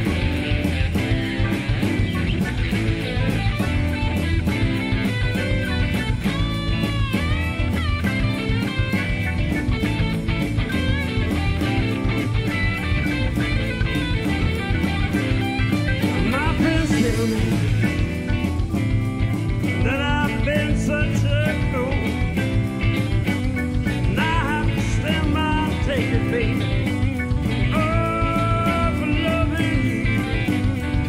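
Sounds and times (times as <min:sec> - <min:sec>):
rock band playing: 0:00.0 - 0:31.0
sliding lead guitar line: 0:00.0 - 0:31.0.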